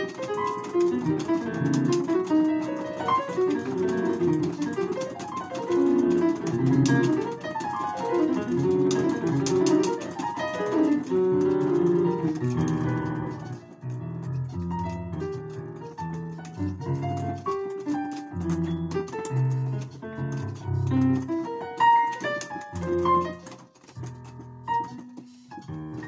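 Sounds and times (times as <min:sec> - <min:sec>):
sharp clicks: 0:00.0 - 0:26.0.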